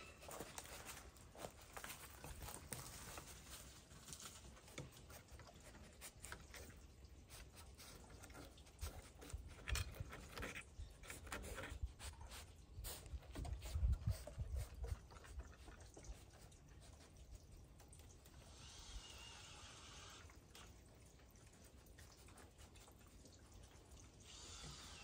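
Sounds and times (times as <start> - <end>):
animal scratching and chewing wood: 0.0 - 18.4, 20.5 - 25.0.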